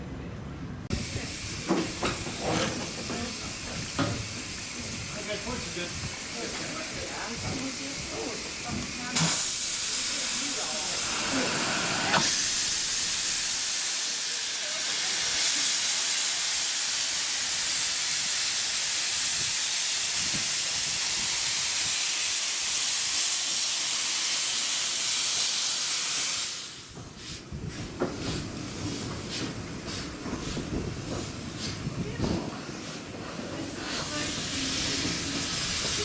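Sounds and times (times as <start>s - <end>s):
steam hissing: 0.9s - 36.0s.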